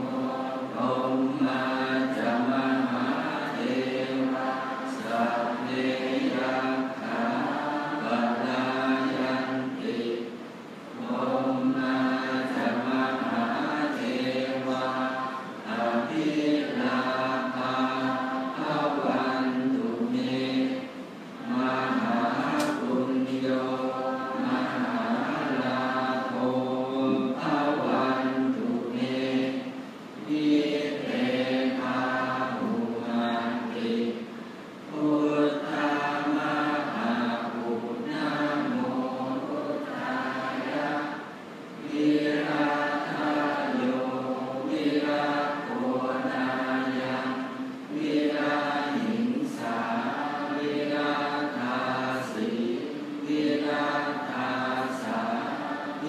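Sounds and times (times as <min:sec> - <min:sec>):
monks chanting in unison: 0:00.0 - 0:56.0.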